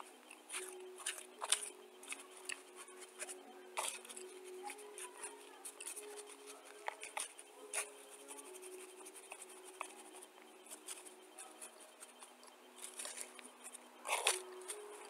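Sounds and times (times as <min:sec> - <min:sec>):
plastic spoon scraping powder: 0:00.0 - 0:15.0.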